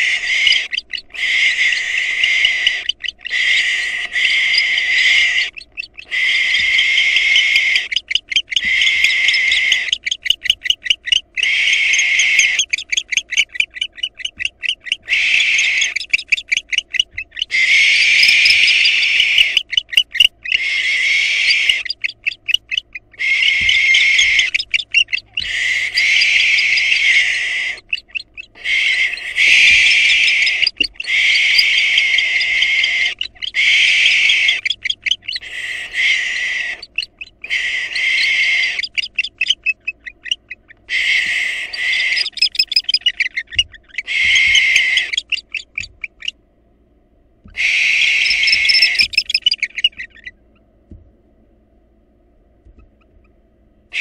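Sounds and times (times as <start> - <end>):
owl clicking calls: 0.0 - 46.4, 47.5 - 50.7, 52.8 - 54.0
owls screeching: 0.0 - 46.4, 47.4 - 50.4.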